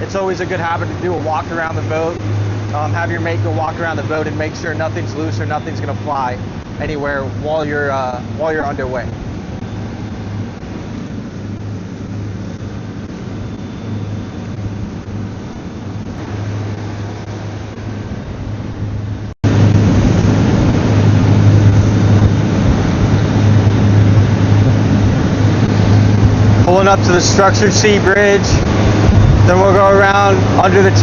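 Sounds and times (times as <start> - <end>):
boat engines droning: 0.0 - 31.0
rush of boat underway: 0.0 - 31.0.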